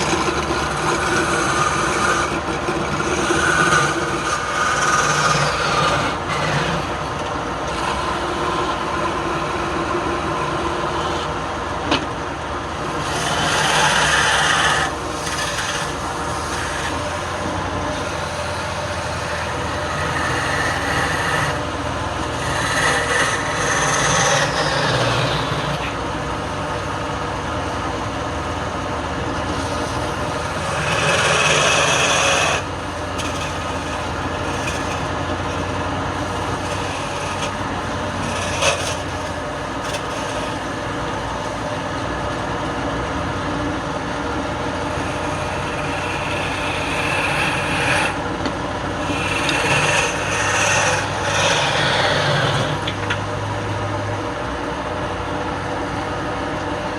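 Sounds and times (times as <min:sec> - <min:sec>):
tool scraping spinning wood: 0:00.0 - 0:55.9
wood lathe motor hum: 0:00.0 - 0:56.9.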